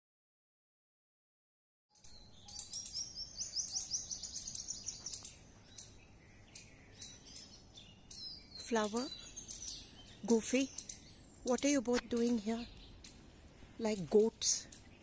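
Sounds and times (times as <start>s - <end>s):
small birds chirping: 1.9s - 15.0s.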